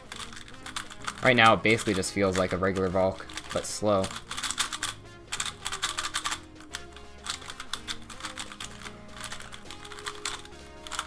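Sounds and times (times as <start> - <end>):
background music with low notes: 0.0 - 11.0
puzzle cube clicking: 0.0 - 11.0.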